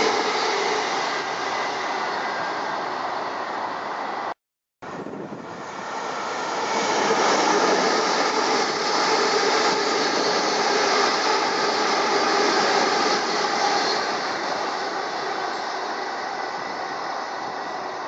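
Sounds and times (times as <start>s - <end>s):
train rumbling on a bridge: 0.0s - 4.3s, 4.9s - 18.0s.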